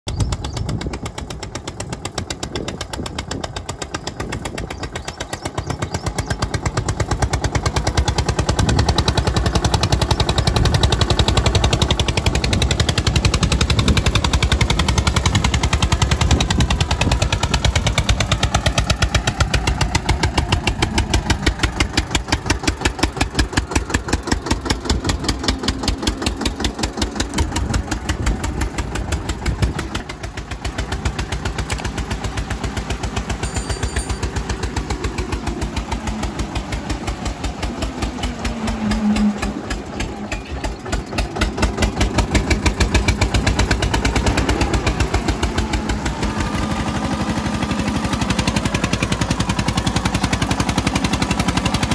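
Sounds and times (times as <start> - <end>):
tractor diesel engine chugging: 0.1 - 51.9.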